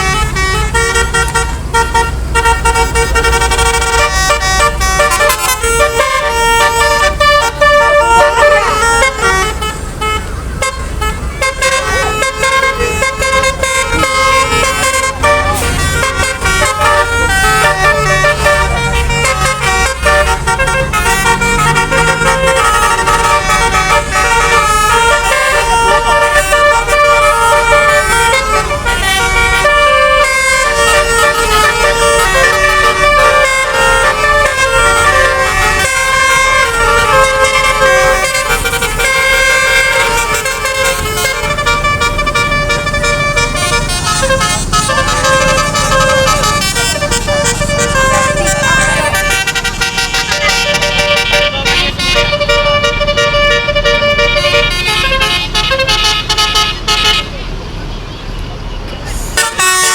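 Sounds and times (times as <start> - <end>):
multi-tone bus horn melody: 0.0 - 58.4, 59.1 - 59.9
bus engine rumble: 0.0 - 59.9.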